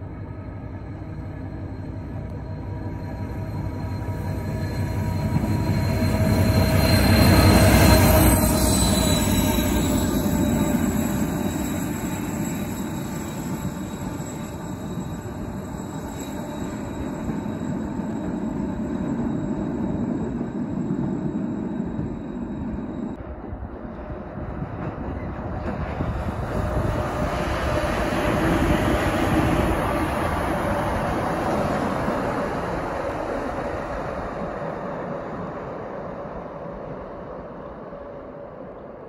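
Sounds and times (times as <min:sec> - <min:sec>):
train passing: 0:00.0 - 0:39.0.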